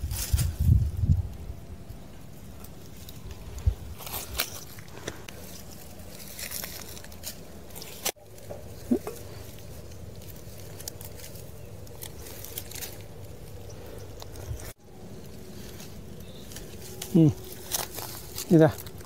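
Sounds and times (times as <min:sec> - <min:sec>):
dry grass and leaves rustling: 0:00.0 - 0:19.0.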